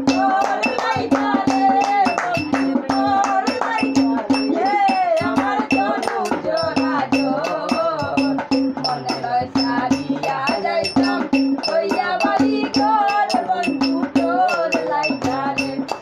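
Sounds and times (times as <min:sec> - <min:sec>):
boy singing folk song: 0:00.0 - 0:16.0
hand drumming on a pot: 0:00.0 - 0:16.0.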